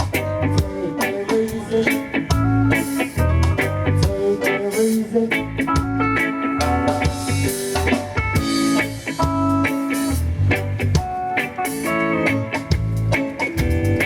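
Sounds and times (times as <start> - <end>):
deep bass notes: 0.0 - 4.4, 5.3 - 11.3, 11.9 - 14.0
drum kit steady beat: 0.0 - 14.0
plucked guitar notes: 0.0 - 14.0.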